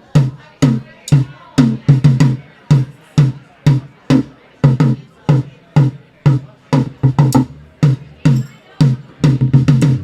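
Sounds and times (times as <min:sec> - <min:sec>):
rack tom drum hits: 0:00.2 - 0:10.0.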